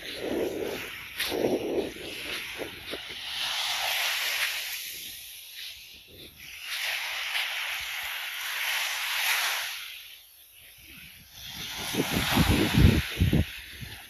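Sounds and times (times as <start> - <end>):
soft footsteps in sand: 0.0 - 14.0
waves washing on sandy shore: 0.0 - 14.0.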